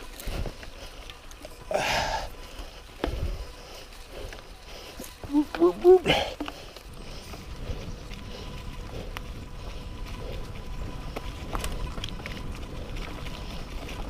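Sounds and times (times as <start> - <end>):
bike clicks and rattles: 0.0 - 14.0
bike tyres rumbling on trail: 0.0 - 14.0.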